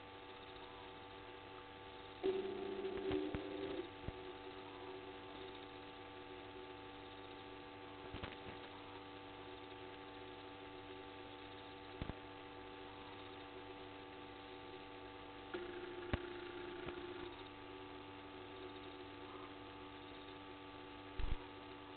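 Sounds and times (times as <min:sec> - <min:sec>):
electrical mains hum: 0:00.0 - 0:21.9
extra hum: 0:00.0 - 0:21.9.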